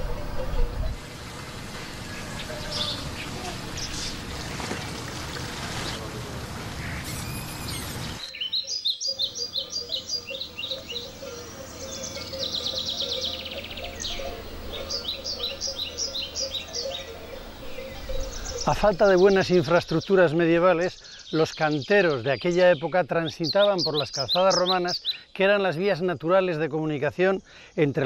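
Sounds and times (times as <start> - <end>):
songbirds singing: 0.0 - 6.1, 6.8 - 28.0.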